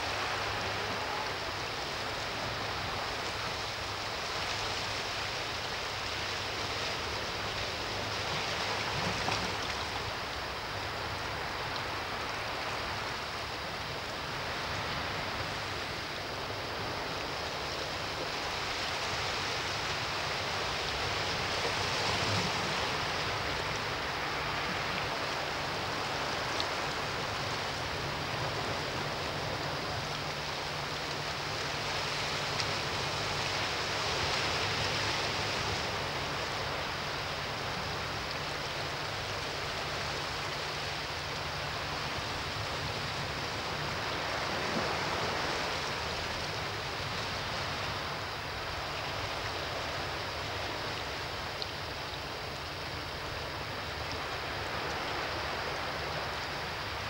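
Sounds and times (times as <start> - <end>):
sea surf on rocky shore: 0.0 - 57.0.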